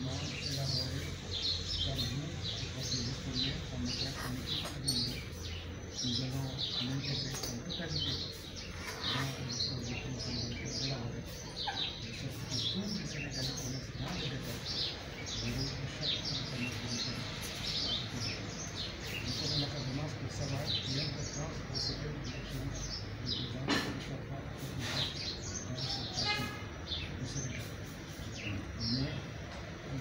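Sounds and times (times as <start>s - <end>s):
low voices murmuring: 0.0s - 30.0s
small birds chirping: 0.0s - 30.0s.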